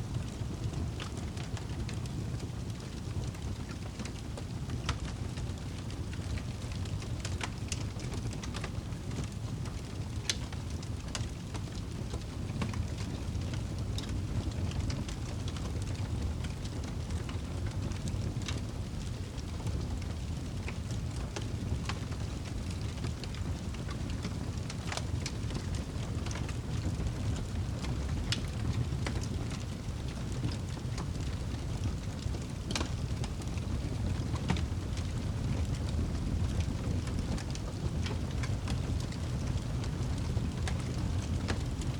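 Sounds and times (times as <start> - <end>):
campfire crackling and popping: 0.1 - 41.9.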